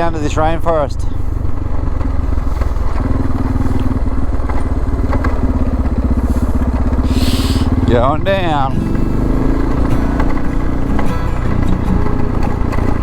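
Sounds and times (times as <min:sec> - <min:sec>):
gravel ticks: 0:00.0 - 0:13.0
motorcycle engine cruising: 0:00.0 - 0:13.0.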